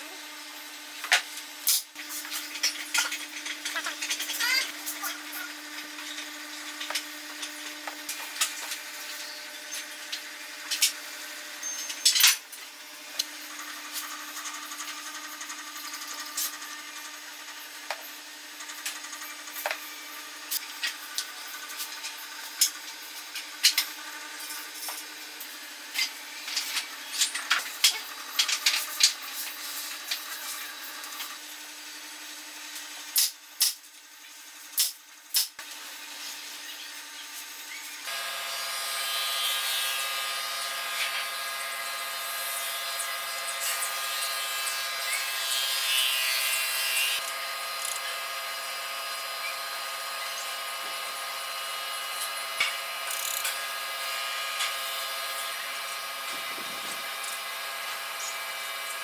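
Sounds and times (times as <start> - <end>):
small power tool on wood: 0.0 - 59.0.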